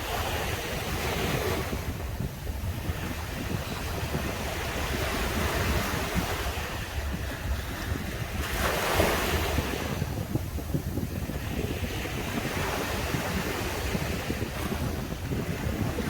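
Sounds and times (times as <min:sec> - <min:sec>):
ocean waves breaking: 0:00.0 - 0:16.0
wind rumble on microphone: 0:00.0 - 0:16.0.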